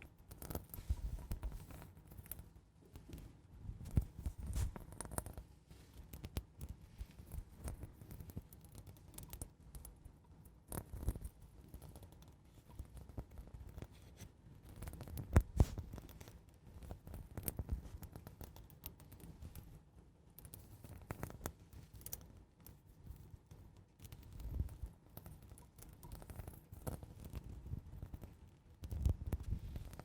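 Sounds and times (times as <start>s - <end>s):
soft scratching and scraping: 0.0s - 9.8s, 10.7s - 19.8s, 20.4s - 30.0s.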